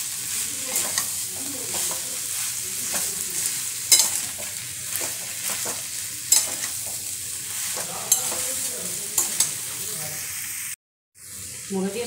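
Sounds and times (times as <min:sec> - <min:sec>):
spatula scraping a pan: 0:00.0 - 0:09.8
frying hiss: 0:00.0 - 0:12.0.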